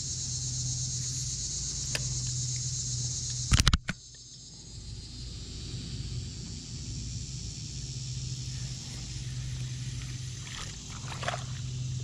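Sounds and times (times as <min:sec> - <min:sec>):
high-pitched insect buzz: 0:00.0 - 0:12.0.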